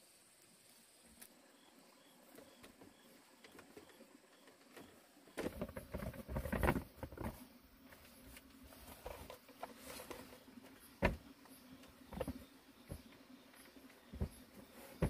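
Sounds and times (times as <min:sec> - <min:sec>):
rustling of gear and bedding: 0:02.4 - 0:15.0.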